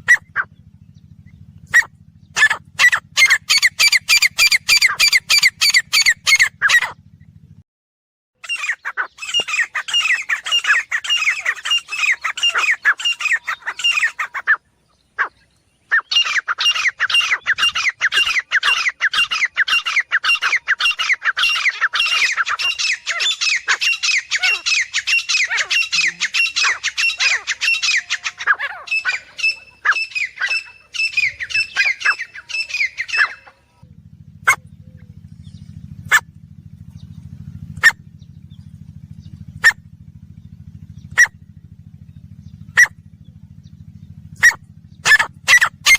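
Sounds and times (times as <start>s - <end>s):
low hum: 0.0s - 7.6s, 8.8s - 45.9s.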